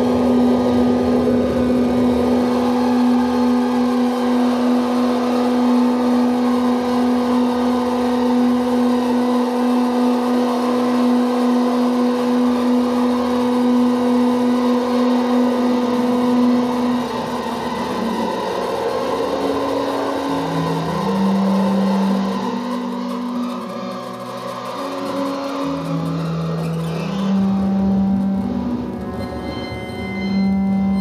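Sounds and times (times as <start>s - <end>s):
droning room resonances: 0.0s - 31.0s.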